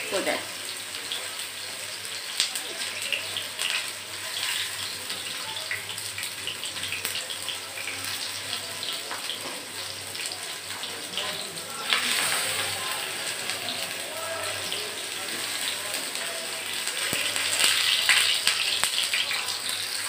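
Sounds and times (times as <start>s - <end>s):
meat patties sizzling in oil: 0.0s - 20.0s.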